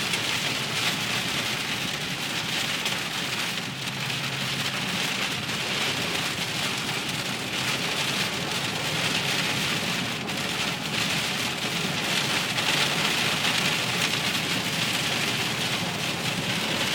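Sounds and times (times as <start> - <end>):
hard rain pelting a car: 0.0 - 16.9.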